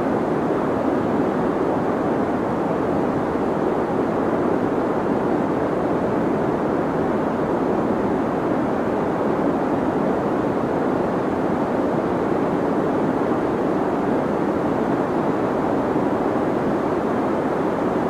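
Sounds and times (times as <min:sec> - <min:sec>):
deep white noise: 0:00.0 - 0:18.0.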